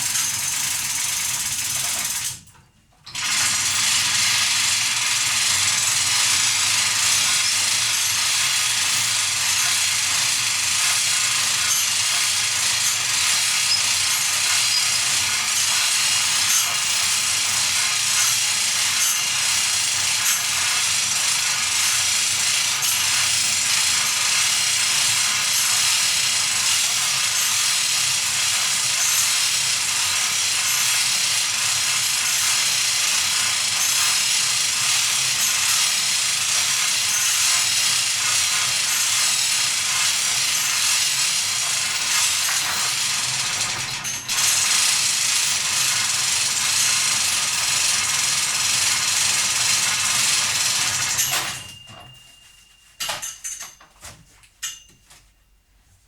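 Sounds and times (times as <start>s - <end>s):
rope hoist hissing mechanical noise: 0.0s - 2.5s, 3.1s - 53.4s.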